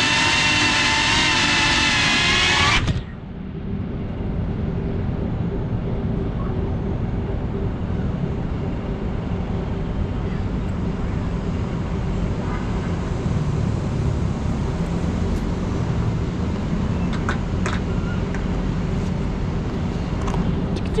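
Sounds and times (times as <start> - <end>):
city road traffic rumble: 0.0 - 21.0.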